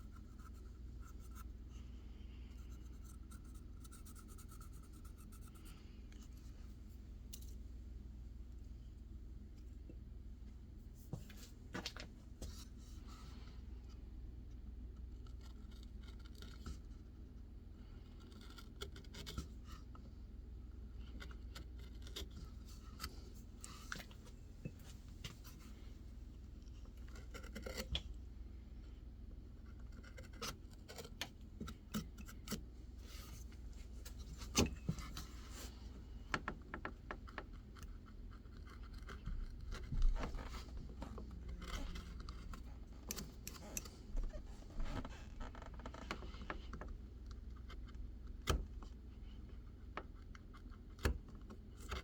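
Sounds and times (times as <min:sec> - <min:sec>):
knife carving wood: 0:00.0 - 0:06.5, 0:12.4 - 0:52.0
low steady hum: 0:00.0 - 0:52.0.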